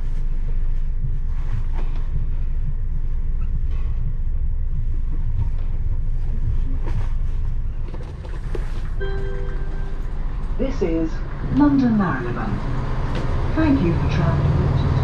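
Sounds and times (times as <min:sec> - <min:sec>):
train coach rumble: 0:00.0 - 0:15.0.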